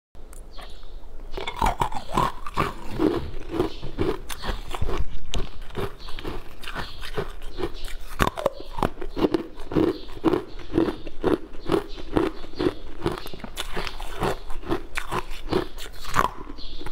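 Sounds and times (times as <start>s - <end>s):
ice cubes crunching: 1.4s - 16.8s.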